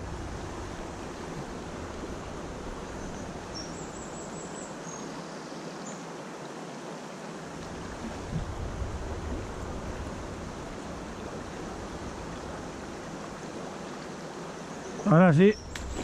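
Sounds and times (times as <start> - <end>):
river water rushing over stones: 0.0 - 16.0.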